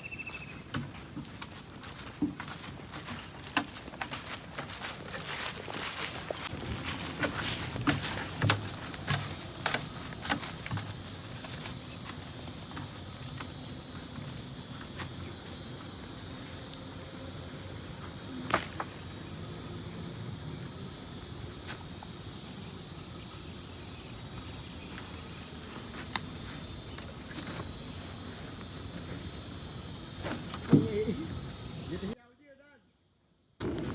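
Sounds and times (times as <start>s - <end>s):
insects chirping: 0.0s - 33.9s.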